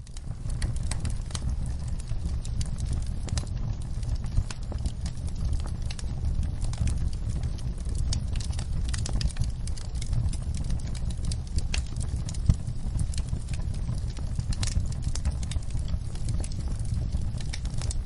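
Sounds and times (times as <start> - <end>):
low rumble of burning: 0.0 - 18.0
wood fire crackling and popping: 0.0 - 18.0.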